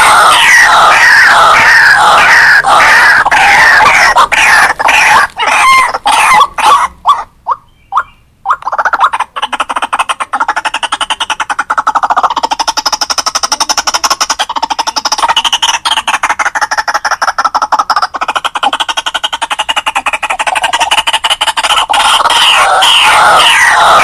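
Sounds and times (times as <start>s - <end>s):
bird harsh repeated calls: 0.0s - 24.0s.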